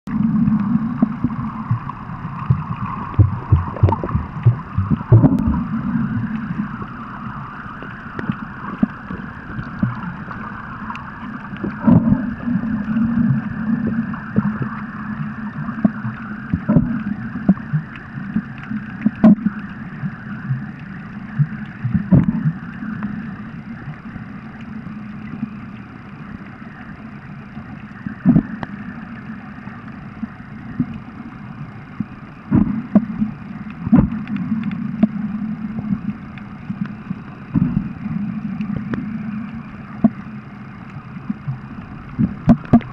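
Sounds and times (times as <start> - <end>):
muffled underwater rush: 0.1 - 42.9.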